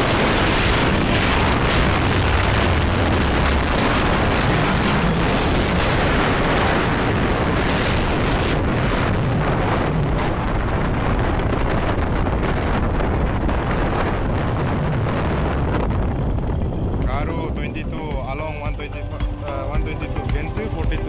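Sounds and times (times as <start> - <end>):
engine and tyres rumbling: 0.0 - 21.0
wind buffeting microphone: 0.0 - 21.0.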